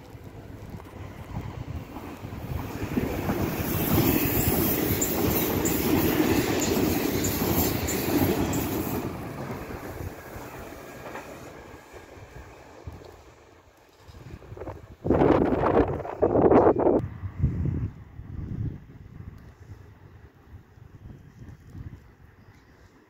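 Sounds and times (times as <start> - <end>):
electric train passing: 0.0 - 20.5.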